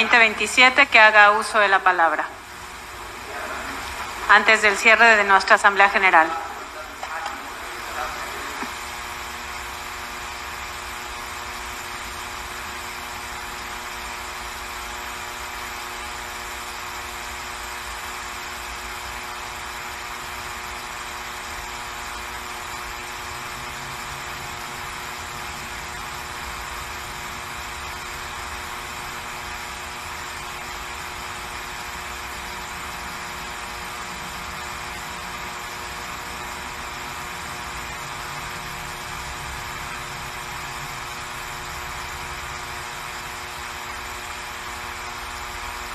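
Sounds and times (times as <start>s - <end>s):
steady buzzing hum: 0.0s - 45.9s.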